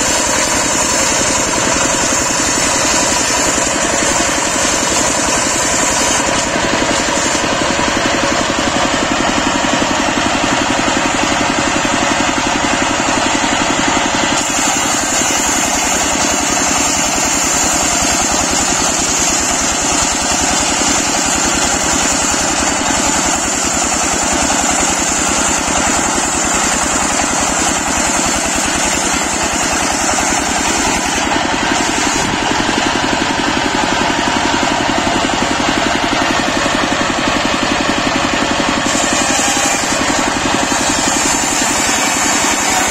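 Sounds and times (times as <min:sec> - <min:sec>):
circular saw blade cutting log: 0:00.0 - 0:42.9
diesel engine running: 0:00.0 - 0:42.9.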